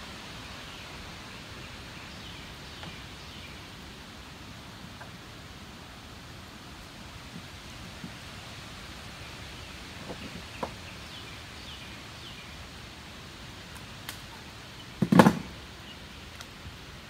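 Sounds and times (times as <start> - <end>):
wind and river hiss: 0.0 - 17.0.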